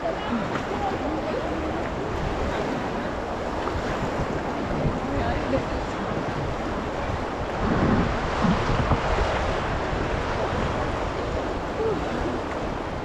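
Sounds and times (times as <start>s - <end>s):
rushing river water: 0.0s - 13.0s
wind buffeting microphone: 0.0s - 13.0s.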